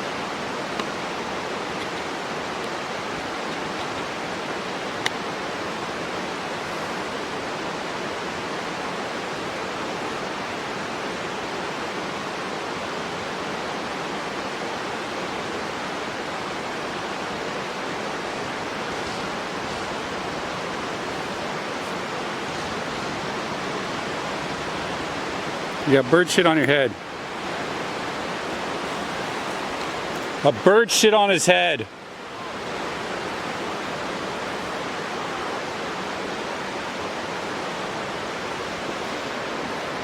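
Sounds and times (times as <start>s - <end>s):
flowing water rushing: 0.0s - 40.0s.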